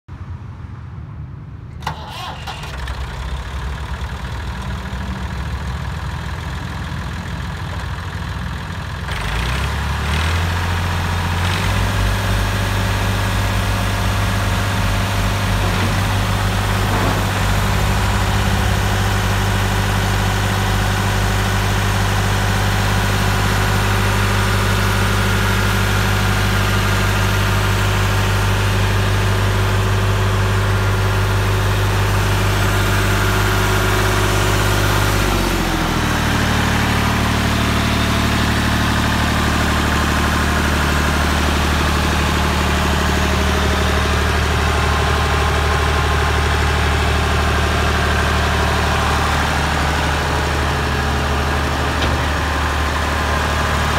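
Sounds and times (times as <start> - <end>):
diesel tractor engine starting: 1.6 - 53.9.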